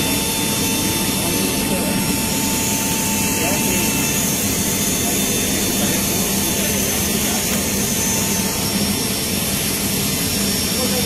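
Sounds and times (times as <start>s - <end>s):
high steady whine: 0.0s - 11.0s
jet turbine rushing: 0.0s - 11.0s.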